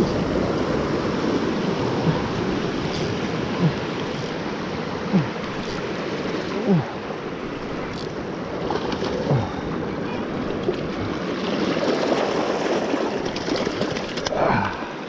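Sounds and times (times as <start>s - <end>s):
sea waves washing over rocks: 0.0s - 15.0s.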